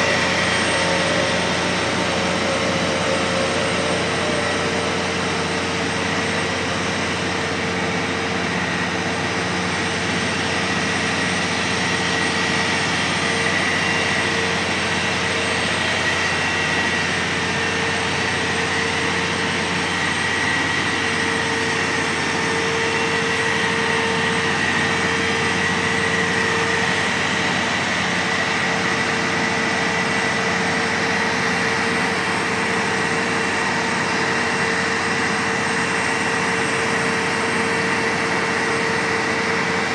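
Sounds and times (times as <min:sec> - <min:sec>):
crane diesel engines droning: 0:00.0 - 0:39.9
hydraulic whine: 0:00.0 - 0:39.9.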